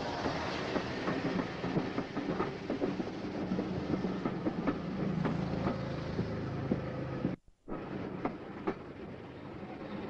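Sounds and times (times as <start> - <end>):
wheels clicking over track: 0.0 - 9.1
train rumbling: 0.0 - 10.0.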